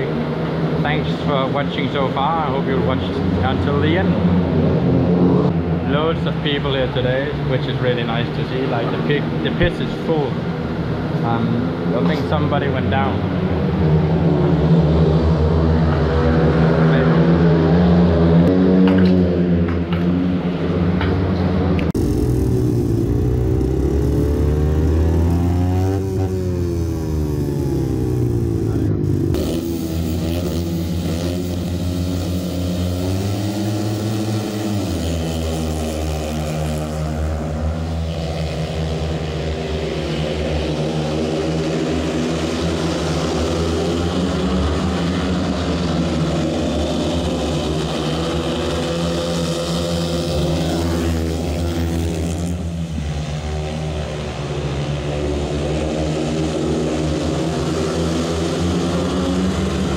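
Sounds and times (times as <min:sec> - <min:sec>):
motorcycles racing at full throttle: 0:00.0 - 0:59.9.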